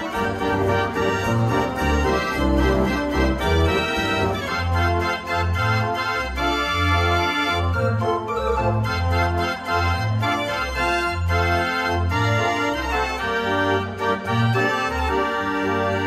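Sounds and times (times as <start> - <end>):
street organ playing a tune: 0.0 - 16.0.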